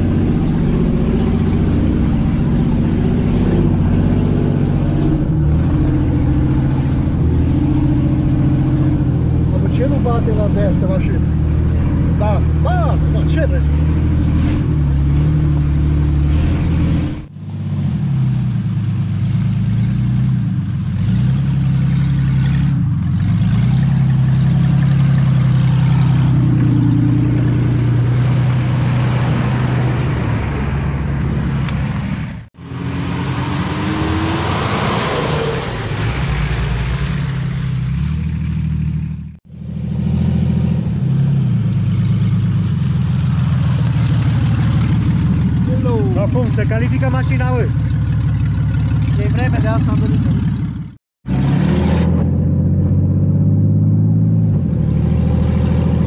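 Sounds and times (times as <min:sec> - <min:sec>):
off-road vehicle engines: 0:00.0 - 0:56.0.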